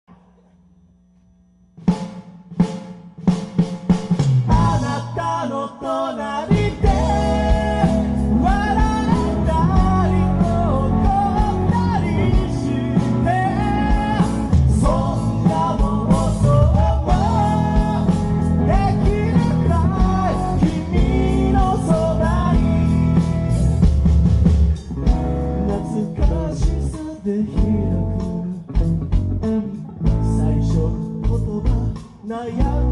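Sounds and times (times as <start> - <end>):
rock band playing live: 1.9 - 32.9
melodic lead guitar line: 4.3 - 5.4, 6.4 - 32.9.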